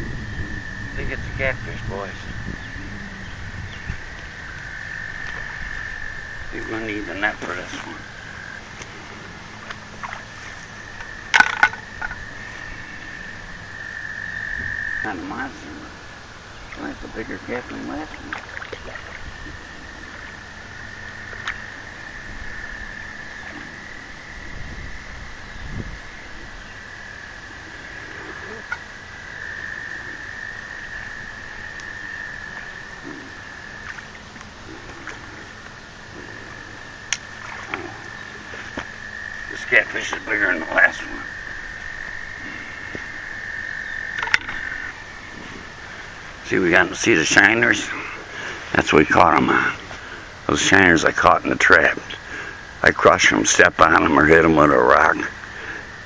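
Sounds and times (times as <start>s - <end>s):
frog trilling: 0.0s - 56.0s.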